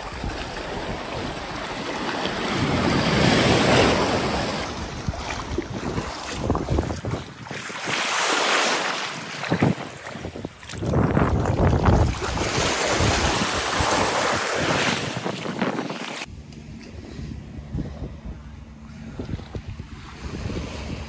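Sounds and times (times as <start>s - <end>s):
wind buffeting microphone: 0.0s - 8.2s, 9.0s - 21.0s.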